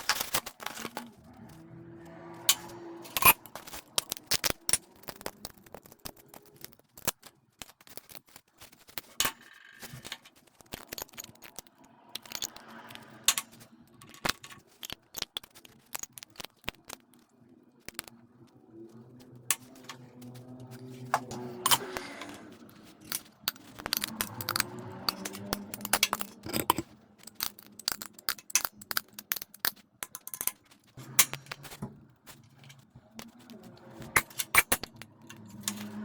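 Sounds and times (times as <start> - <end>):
metal parts clinking: 0.0 - 18.1, 19.5 - 33.4, 34.0 - 36.0.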